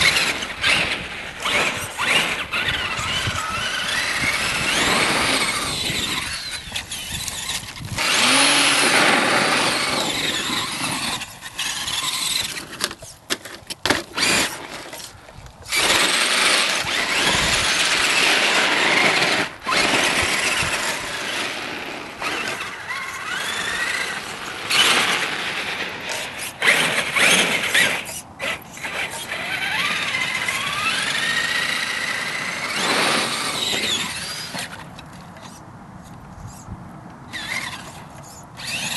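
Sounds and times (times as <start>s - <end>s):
toy truck electric motor whining: 0.0s - 35.6s, 37.3s - 38.9s.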